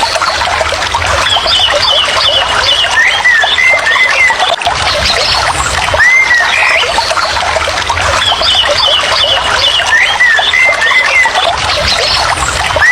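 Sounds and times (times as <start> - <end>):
birds whistling and chirping: 1.2 - 7.4, 8.2 - 12.9.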